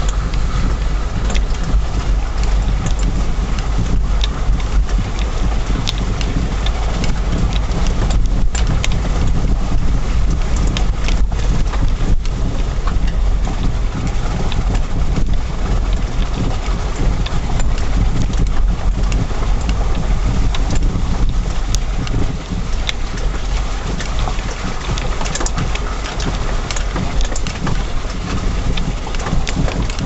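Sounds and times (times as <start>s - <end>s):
vehicle engine low rumble: 0.0s - 30.0s.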